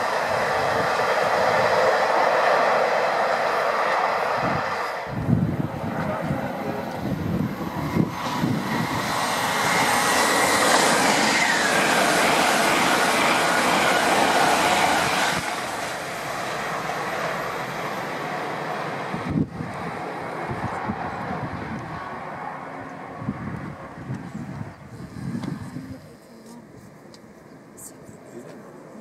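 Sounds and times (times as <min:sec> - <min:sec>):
electric train passing at speed: 0:00.0 - 0:29.0.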